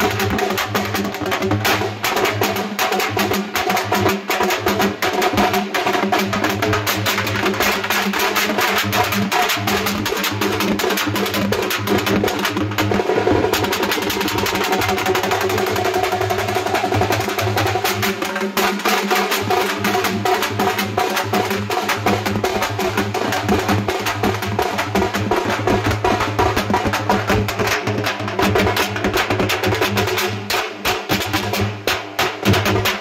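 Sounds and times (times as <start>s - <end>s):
fast dense drumming: 0.0s - 33.0s.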